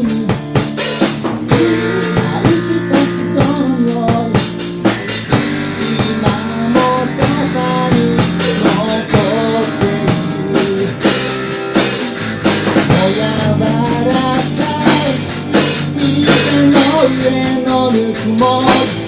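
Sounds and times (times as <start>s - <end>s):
drum kit beat: 0.0s - 19.0s
rock band playing: 0.0s - 19.0s.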